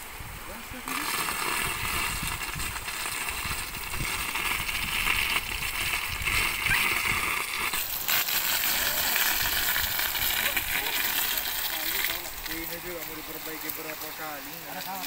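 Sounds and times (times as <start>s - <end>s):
water rushing from leaking pipe: 0.0s - 15.0s.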